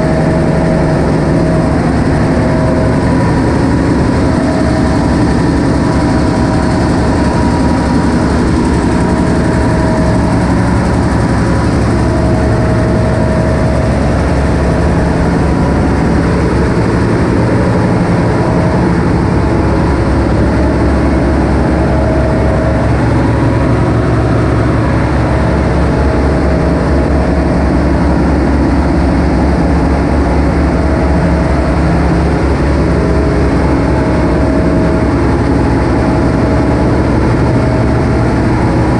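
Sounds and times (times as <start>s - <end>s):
engine room machinery drone: 0.0s - 38.9s
higher machine hum: 0.0s - 38.9s.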